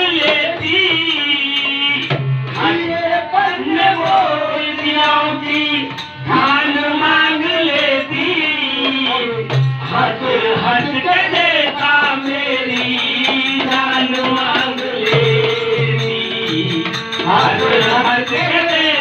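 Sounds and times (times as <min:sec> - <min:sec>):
dholak drum strokes: 0:00.0 - 0:19.0
harmonium melody: 0:00.0 - 0:19.0.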